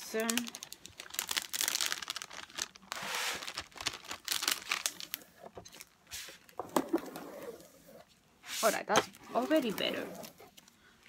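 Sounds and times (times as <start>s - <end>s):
plastic film crinkling: 0.0s - 7.0s, 8.7s - 10.8s.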